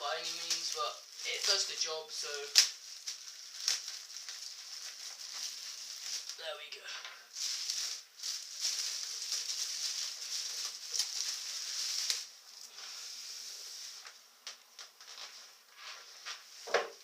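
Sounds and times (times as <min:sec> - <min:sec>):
plastic bag rustling and crinkling: 0:00.0 - 0:17.0.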